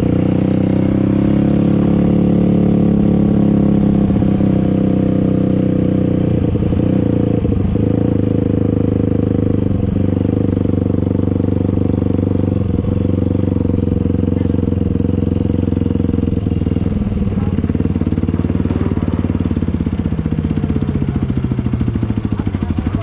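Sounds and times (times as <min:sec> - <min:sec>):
quad engine running: 0:00.0 - 0:23.0.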